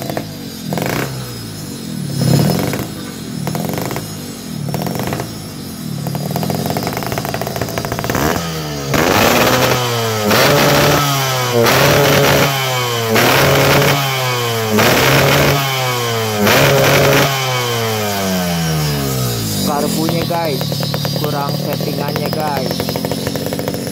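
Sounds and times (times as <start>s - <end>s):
motorcycle engine revving: 0.0s - 23.9s
two-stroke motorcycle idling: 0.0s - 23.9s.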